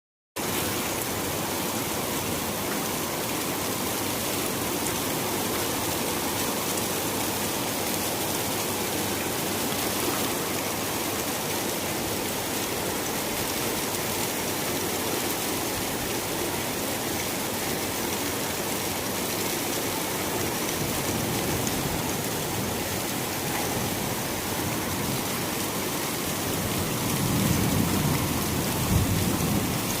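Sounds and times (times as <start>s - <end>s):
steady rain falling: 0.4s - 30.0s.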